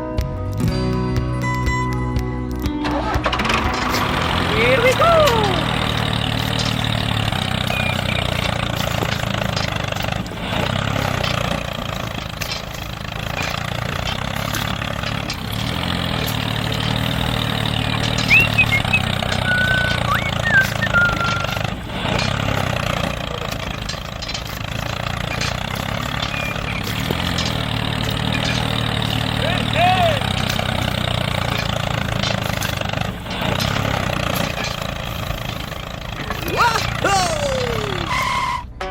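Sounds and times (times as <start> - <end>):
small tractor engine idling: 1.7 - 38.9.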